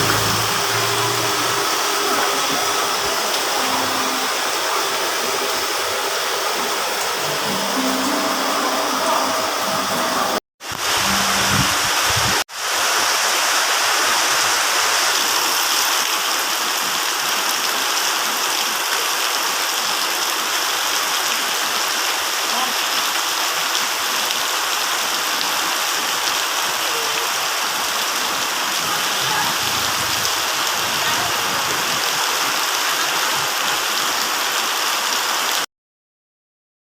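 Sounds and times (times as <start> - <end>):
heavy rain: 0.0 - 35.7
running floodwater: 0.0 - 35.7.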